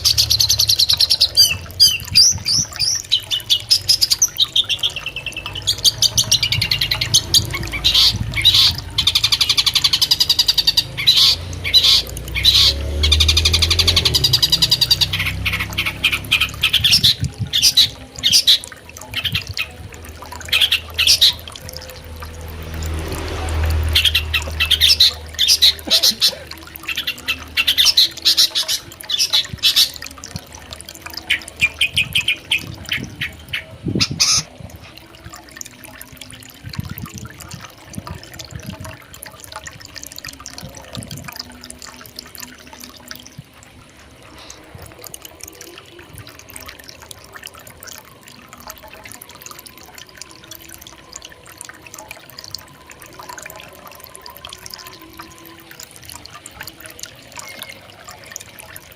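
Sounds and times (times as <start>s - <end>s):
river water running: 0.0s - 58.9s.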